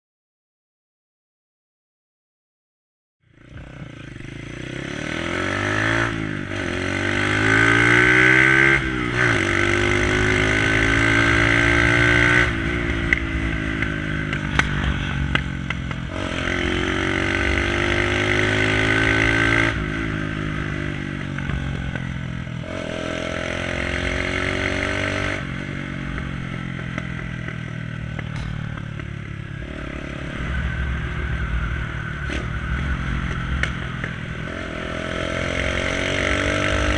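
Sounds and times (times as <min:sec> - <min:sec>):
motorcycle engine revving: 0:03.2 - 0:36.9.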